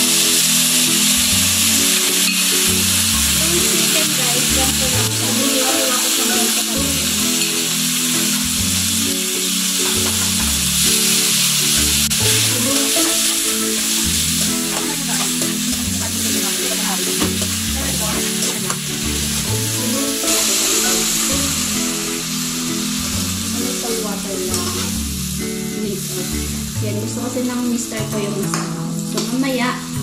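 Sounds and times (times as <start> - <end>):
chicken sizzling in oil: 0.0 - 28.2
background music with bass line: 0.0 - 30.0.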